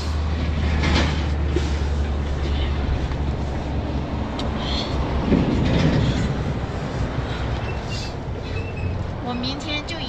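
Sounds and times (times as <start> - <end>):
strong wind on tent: 0.0 - 9.3.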